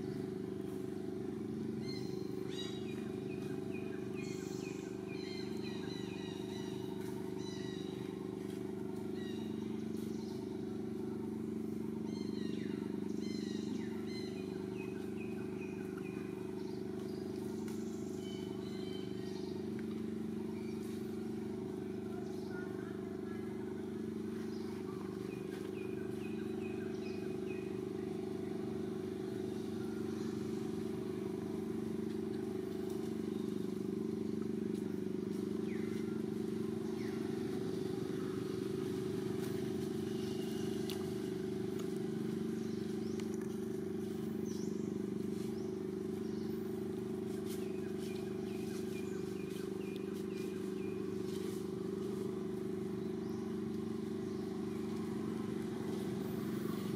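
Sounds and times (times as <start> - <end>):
low motor drone: 0.0 - 56.9.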